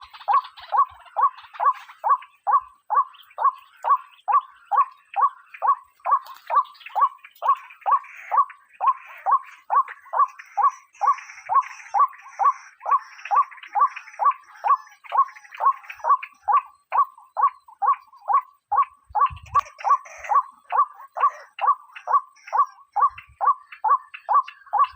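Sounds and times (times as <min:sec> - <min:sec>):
waterhen calling: 0:00.0 - 0:24.9.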